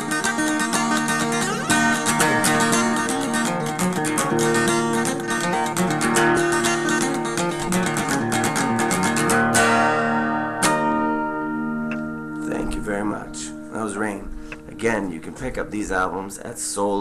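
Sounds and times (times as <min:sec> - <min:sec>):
strummed guitar chord: 0:00.0 - 0:15.0
acoustic guitar picking: 0:00.0 - 0:16.2.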